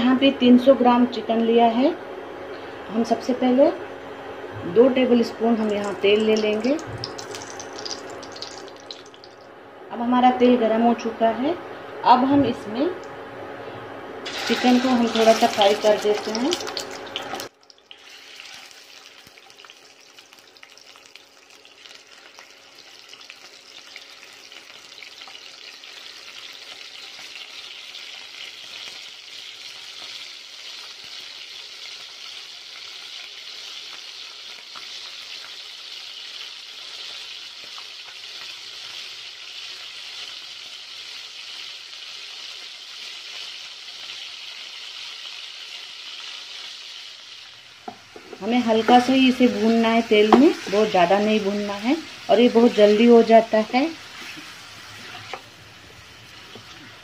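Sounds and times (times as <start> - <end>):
chicken sizzling in hot oil: 5.5 - 9.4, 14.2 - 57.0.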